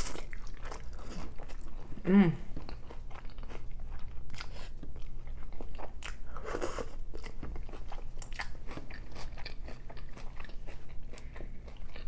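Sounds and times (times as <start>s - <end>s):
chewing and crunching food: 0.0s - 12.0s.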